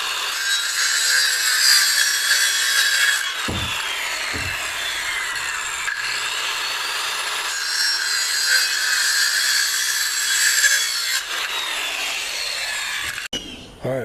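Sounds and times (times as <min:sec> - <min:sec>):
power saw cutting wood: 0:00.0 - 0:13.8.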